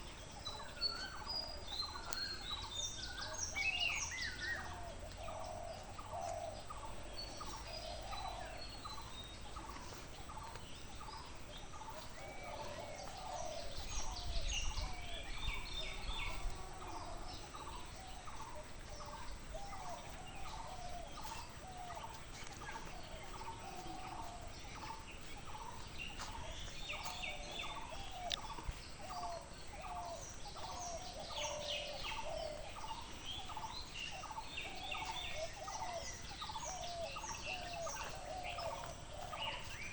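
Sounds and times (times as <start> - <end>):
short low repeated bird calls: 0.0 - 39.9
songbirds chirping: 0.0 - 39.9.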